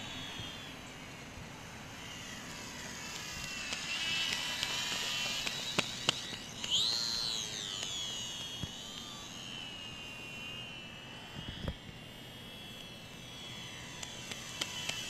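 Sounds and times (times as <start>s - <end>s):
small electric motor and propeller whining: 0.0s - 15.0s.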